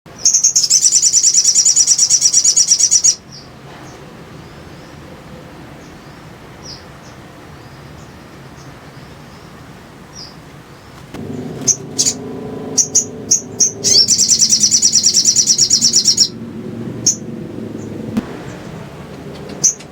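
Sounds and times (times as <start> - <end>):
songbird trilling: 0.2 - 3.6, 5.8 - 16.4, 17.0 - 18.0, 18.6 - 19.9.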